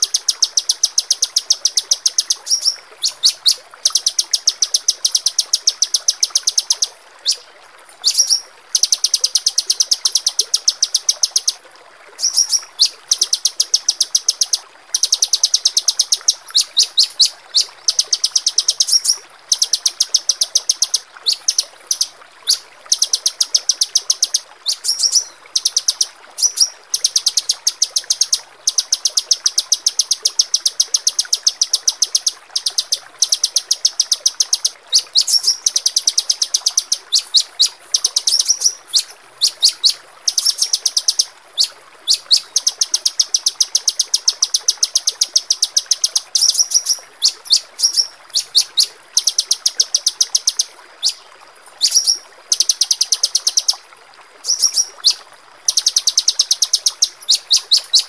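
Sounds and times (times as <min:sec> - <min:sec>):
songbirds chipping: 0:00.0 - 0:11.6, 0:12.2 - 0:53.8, 0:54.4 - 0:58.0.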